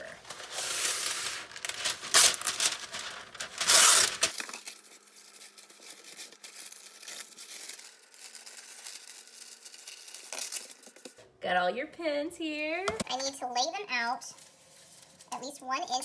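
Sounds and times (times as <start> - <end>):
parchment paper crinkling: 0.0 - 11.2, 14.0 - 16.0.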